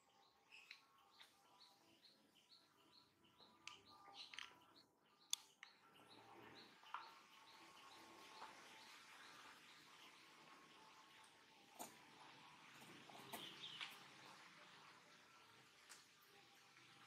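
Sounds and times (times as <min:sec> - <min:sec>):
bird chirping: 0:00.0 - 0:14.5.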